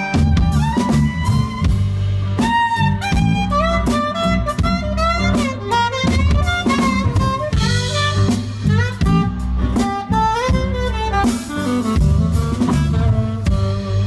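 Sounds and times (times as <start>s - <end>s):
bass guitar: 0.0s - 14.0s
drum kit: 0.0s - 14.0s
saxophone solo: 0.0s - 14.0s.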